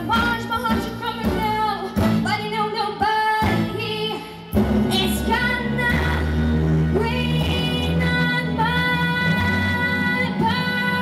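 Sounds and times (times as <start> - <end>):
girl singing into microphone: 0.0 - 6.4, 7.0 - 11.0
instrumental accompaniment: 0.0 - 11.0.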